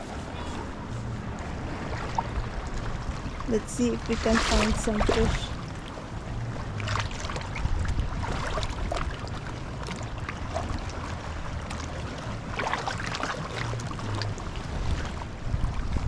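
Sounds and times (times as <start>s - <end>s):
low rumble: 0.0s - 16.0s
water noise: 0.0s - 16.0s.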